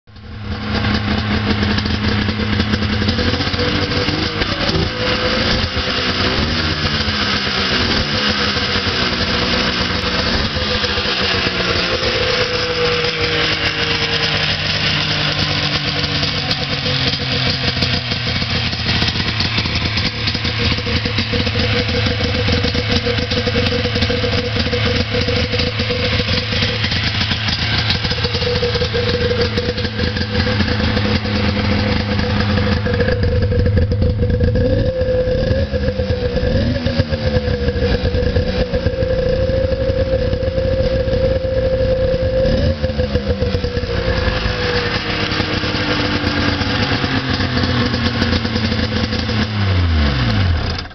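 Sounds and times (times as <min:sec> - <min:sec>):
snowmobile engine idling: 0:00.1 - 0:50.9.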